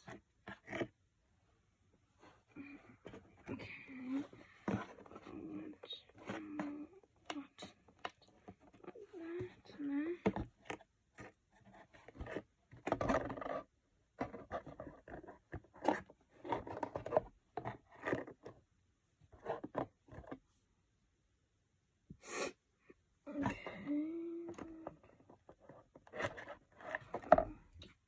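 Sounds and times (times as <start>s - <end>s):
scraping and rustling on cardboard: 0.0s - 1.0s, 2.0s - 20.5s, 24.4s - 28.0s.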